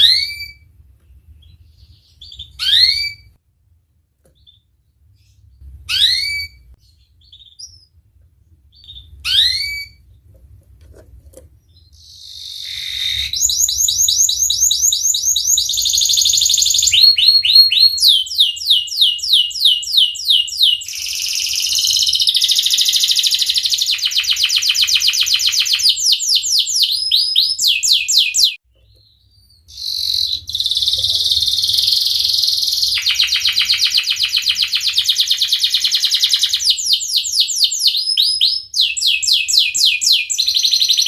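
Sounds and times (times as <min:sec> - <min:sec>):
canary singing trills: 0:00.0 - 0:03.4, 0:04.4 - 0:08.0, 0:08.7 - 0:10.2, 0:11.6 - 0:41.0.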